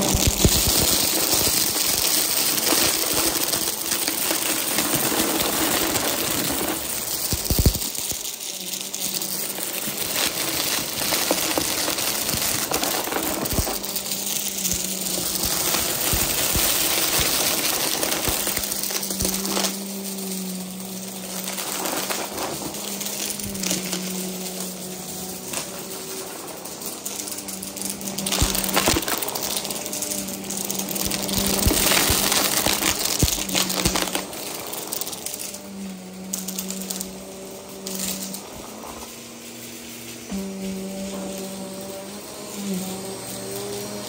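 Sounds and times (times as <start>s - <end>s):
debris rattling in vacuum: 0.0s - 44.0s
vacuum cleaner motor hum: 0.0s - 44.0s.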